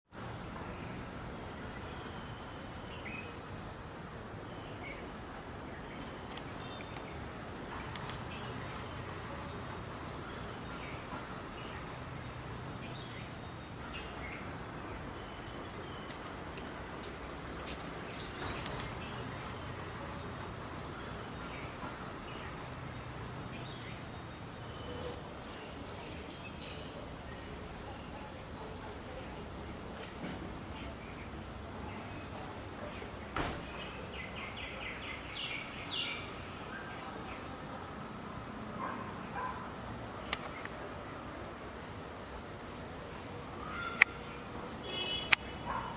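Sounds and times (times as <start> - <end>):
outdoor background noise: 0.0 - 45.9
background hiss: 0.1 - 45.9.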